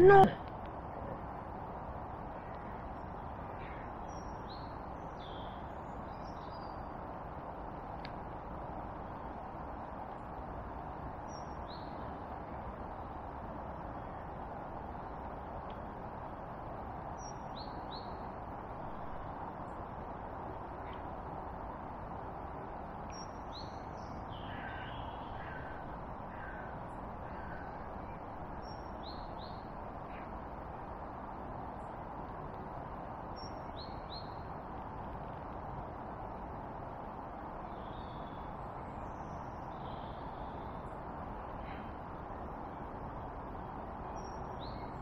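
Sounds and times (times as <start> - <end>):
background hiss: 0.0 - 45.0.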